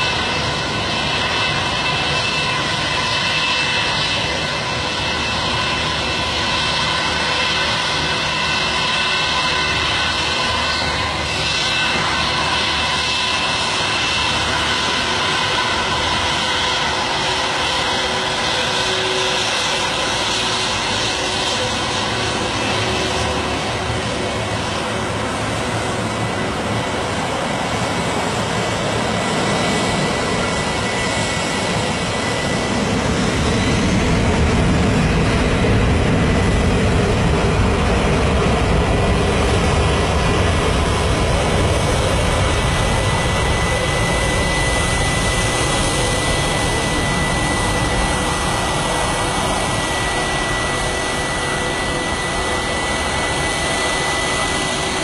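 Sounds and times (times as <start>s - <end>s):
jet engines roaring with whine: 0.0s - 55.0s.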